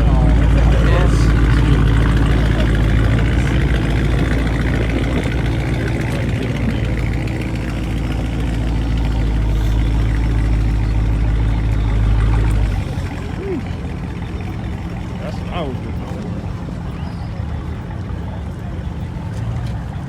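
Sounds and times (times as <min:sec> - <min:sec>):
car engine deep drone: 0:00.0 - 0:20.0.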